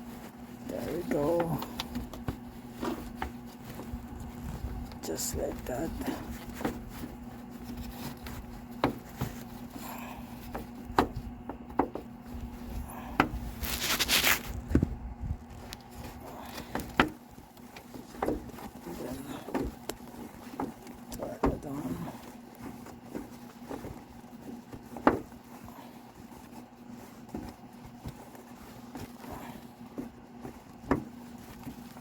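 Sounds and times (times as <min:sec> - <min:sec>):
rustling scrape: 0:00.0 - 0:32.0
steady low hum: 0:00.0 - 0:32.0.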